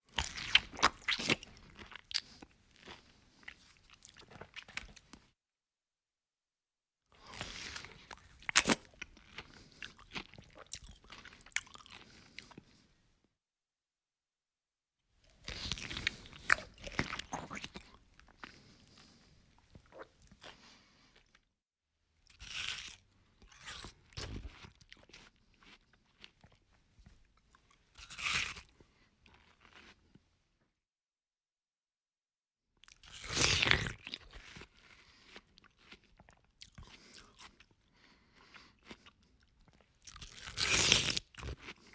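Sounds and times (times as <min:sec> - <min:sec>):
person chewing crunchy food: 0:00.1 - 0:05.3, 0:07.2 - 0:12.9, 0:15.3 - 0:21.5, 0:22.2 - 0:30.2, 0:32.8 - 0:41.9.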